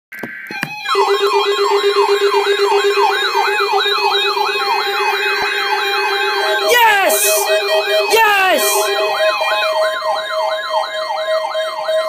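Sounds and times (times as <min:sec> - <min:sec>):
electronic siren falling sweeps: 0:00.5 - 0:12.0.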